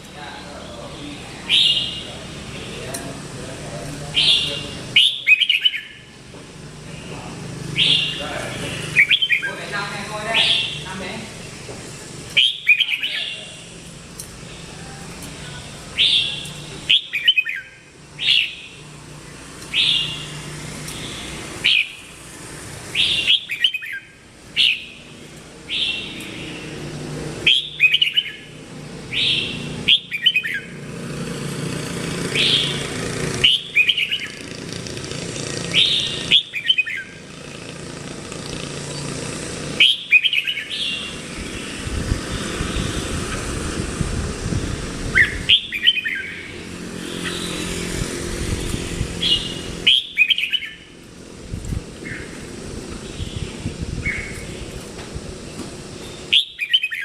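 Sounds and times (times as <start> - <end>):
low traffic rumble: 0.0 - 57.0
bird chirping: 0.3 - 6.1, 6.8 - 11.6, 12.3 - 22.2, 22.8 - 30.8, 32.2 - 34.5, 35.7 - 37.2, 39.8 - 43.6, 45.1 - 51.0, 52.0 - 54.9, 56.0 - 57.0.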